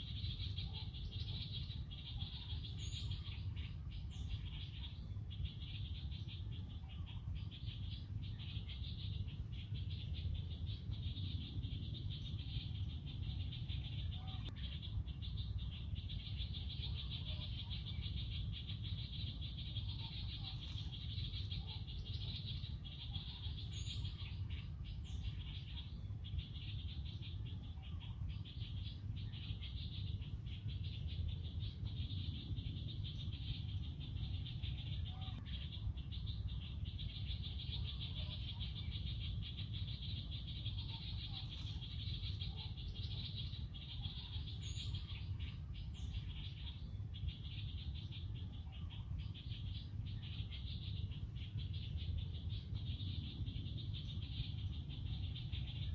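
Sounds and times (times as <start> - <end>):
faint chirps: 0.0 - 55.9.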